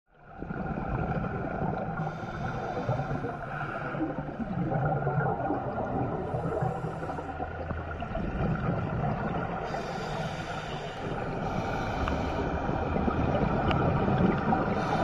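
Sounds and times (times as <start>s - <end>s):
muffled underwater rumble: 0.1s - 15.0s
diver exhaling bubbles: 0.3s - 15.0s.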